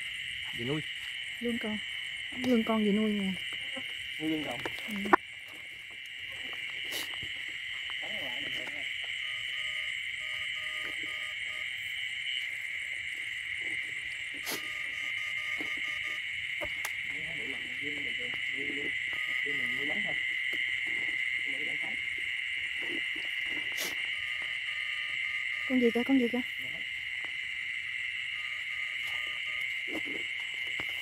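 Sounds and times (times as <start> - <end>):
insects chirring high tones: 0.0 - 31.0.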